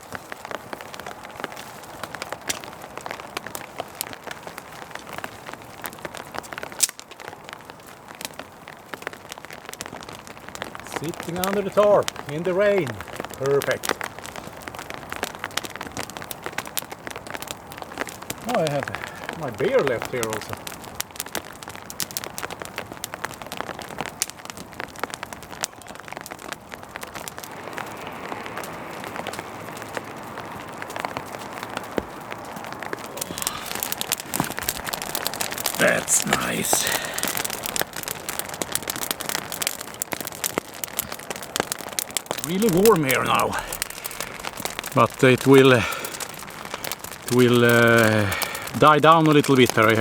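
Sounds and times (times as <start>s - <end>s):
campfire crackling: 0.0s - 50.0s
rain on a tarp: 0.0s - 50.0s.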